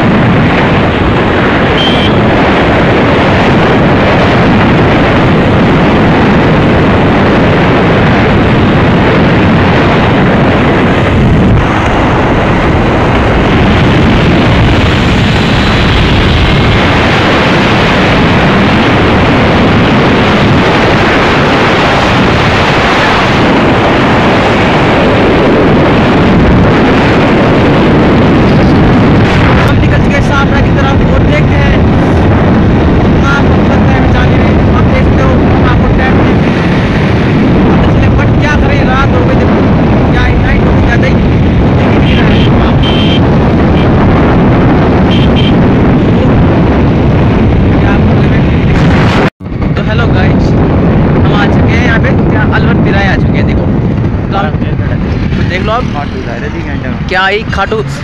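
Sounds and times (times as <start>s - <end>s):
road and engine noise: 0.0s - 58.0s
wind rushing on microphone: 0.0s - 58.0s.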